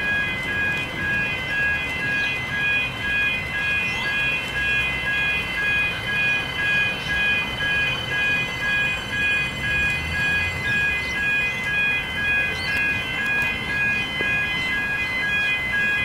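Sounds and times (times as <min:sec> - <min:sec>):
level crossing warning bells: 0:00.0 - 0:16.0.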